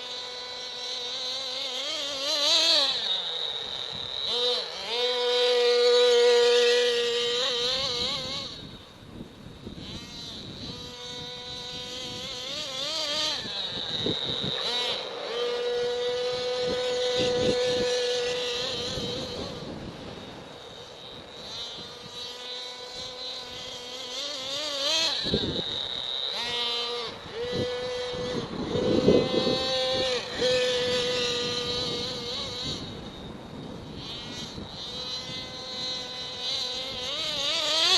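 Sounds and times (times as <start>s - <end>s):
rc truck engine whining: 0.0s - 37.9s.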